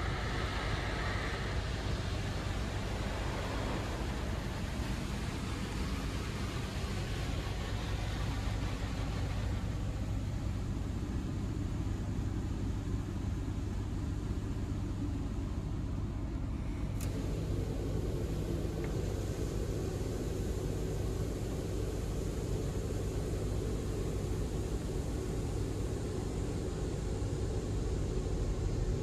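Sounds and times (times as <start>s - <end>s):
car wash low rumble: 0.0s - 29.0s.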